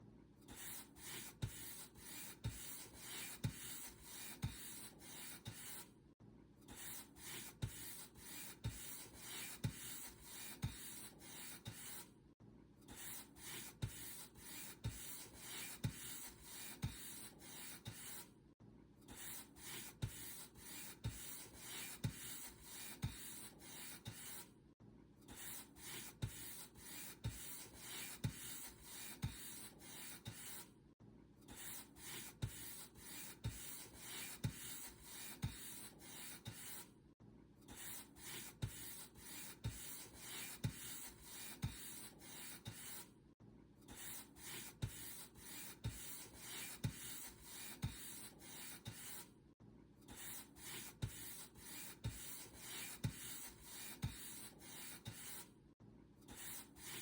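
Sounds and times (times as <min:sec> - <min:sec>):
paint brush strokes: 0:00.6 - 0:05.9, 0:06.8 - 0:12.1, 0:12.9 - 0:18.3, 0:19.1 - 0:24.5, 0:25.3 - 0:30.7, 0:31.5 - 0:36.9, 0:37.7 - 0:43.1, 0:43.9 - 0:49.3, 0:50.1 - 0:55.5, 0:56.3 - 0:57.0.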